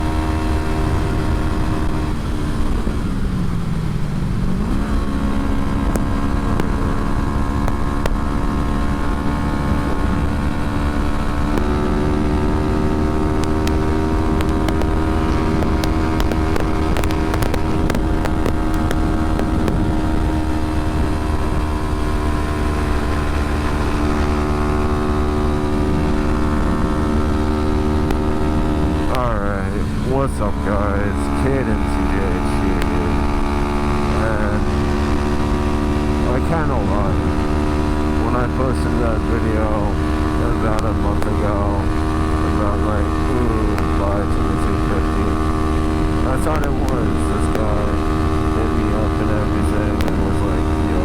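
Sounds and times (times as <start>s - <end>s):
low wind rumble: 0.0s - 51.0s
motorcycle engine running: 0.0s - 51.0s.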